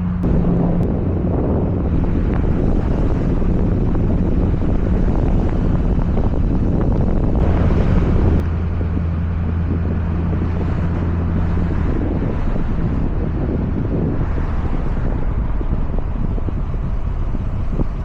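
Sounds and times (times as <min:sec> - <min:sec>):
road and wind roar: 0:00.0 - 0:18.0
rush of noise: 0:00.0 - 0:18.0
vehicle engine hum: 0:00.0 - 0:18.0
wind buffeting microphone: 0:00.0 - 0:18.0.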